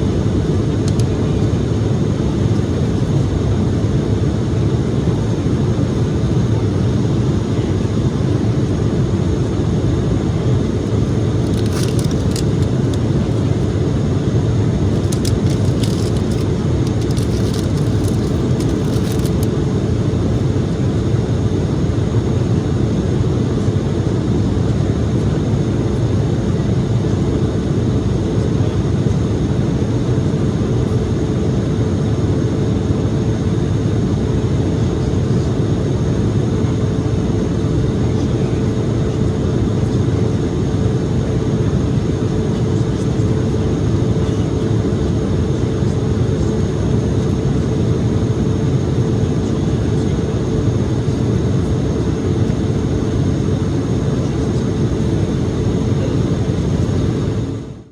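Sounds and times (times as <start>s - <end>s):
airflow rushing in jet cabin: 0.0s - 57.9s
faint steady hum: 0.0s - 57.9s
jet engines: 0.0s - 57.9s.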